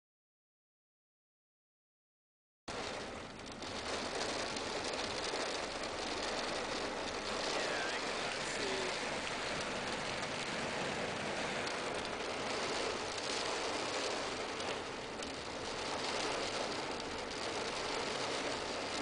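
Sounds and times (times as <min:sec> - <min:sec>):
rain on car roof: 0:02.7 - 0:19.0.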